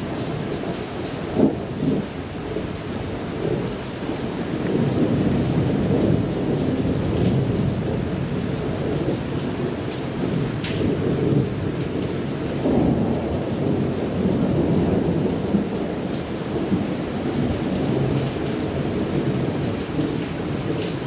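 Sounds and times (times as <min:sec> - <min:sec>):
rolling thunder rumble: 0:00.0 - 0:21.0
steady rain: 0:00.0 - 0:21.0.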